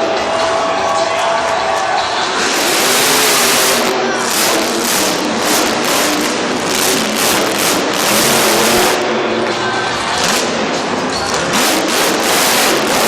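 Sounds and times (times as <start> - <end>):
monster truck engine revving: 2.1 - 13.0.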